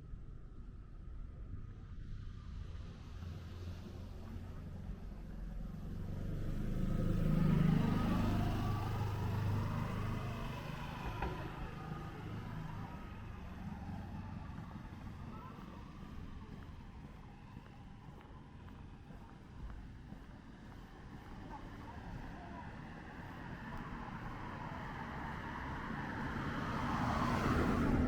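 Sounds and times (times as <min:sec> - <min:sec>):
car driving past: 0:03.0 - 0:28.0.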